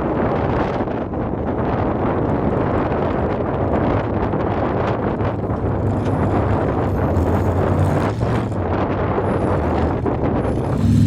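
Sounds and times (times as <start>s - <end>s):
race buggy engine running: 0.0s - 11.0s
wind buffeting microphone: 0.0s - 11.0s.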